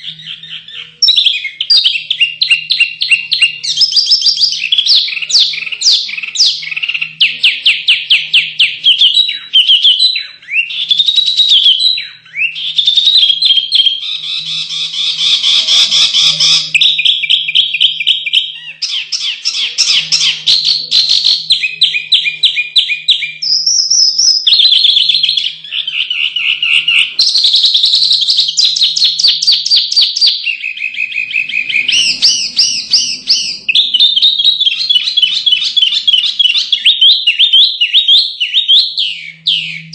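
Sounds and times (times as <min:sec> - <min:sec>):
songbirds trilling and chattering: 0:00.0 - 0:39.9.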